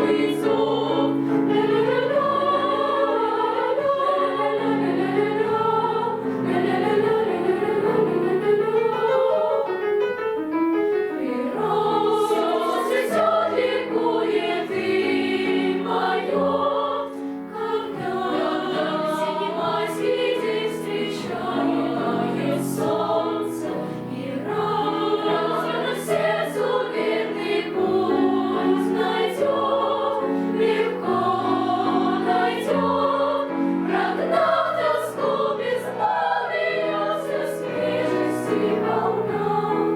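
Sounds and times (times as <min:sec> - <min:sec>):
children's choir singing: 0:00.0 - 0:09.6, 0:11.1 - 0:39.9.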